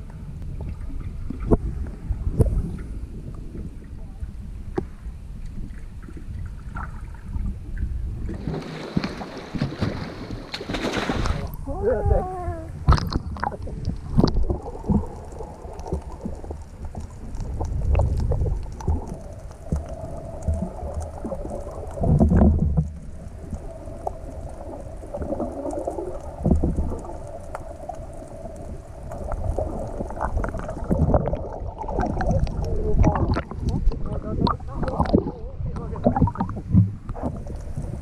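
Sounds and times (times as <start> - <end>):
underwater water sloshing: 0.0 - 38.0.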